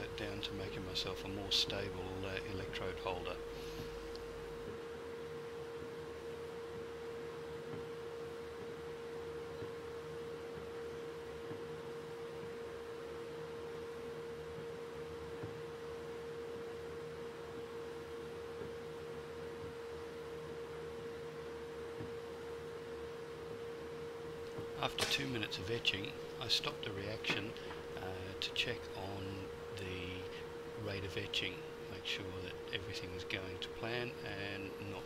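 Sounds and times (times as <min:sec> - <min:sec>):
steady pure hum: 0:00.0 - 0:35.0.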